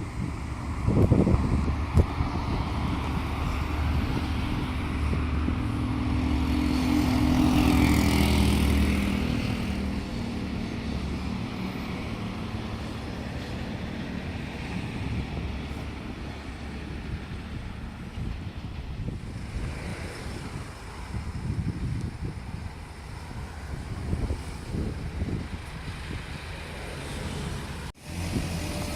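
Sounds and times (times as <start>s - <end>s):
large vehicle engine passing: 0.0s - 28.9s.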